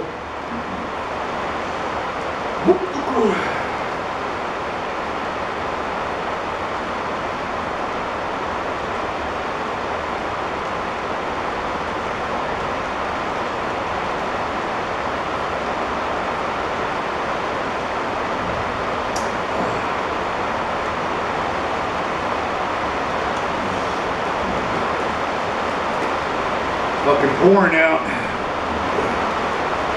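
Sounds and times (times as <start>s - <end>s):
rain hissing: 0.0s - 29.9s.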